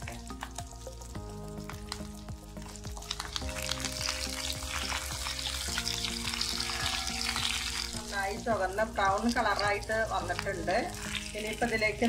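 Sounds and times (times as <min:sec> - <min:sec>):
food sizzling in hot oil: 0:00.0 - 0:12.0
soft background music: 0:00.0 - 0:12.0.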